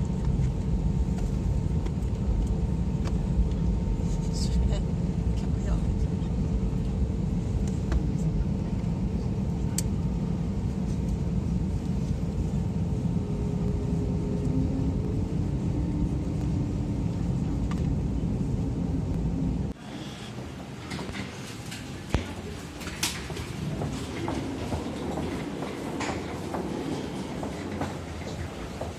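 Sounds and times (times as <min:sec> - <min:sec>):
airplane cabin rumble: 0:00.0 - 0:28.9
faint engine tones: 0:00.0 - 0:28.9.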